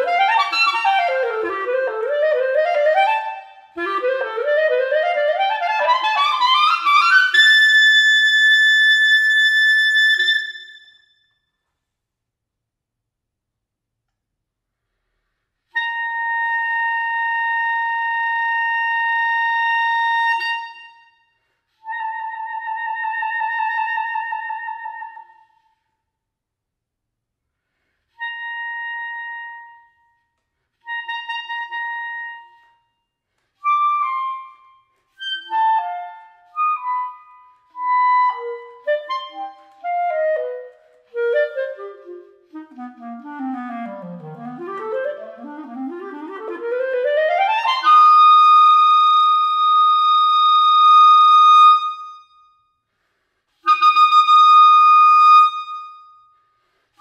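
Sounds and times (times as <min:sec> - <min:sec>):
solo clarinet playing: 0:00.0 - 0:10.9, 0:15.7 - 0:25.6, 0:28.2 - 0:30.2, 0:30.8 - 0:32.9, 0:33.6 - 0:52.5, 0:53.6 - 0:56.4.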